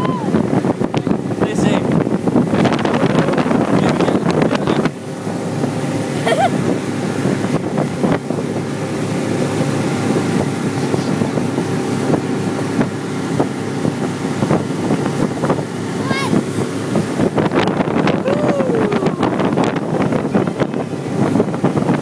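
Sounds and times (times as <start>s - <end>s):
hull rushing through water: 0.0s - 22.0s
speedboat engine: 0.0s - 22.0s
wind buffeting microphone: 0.0s - 22.0s.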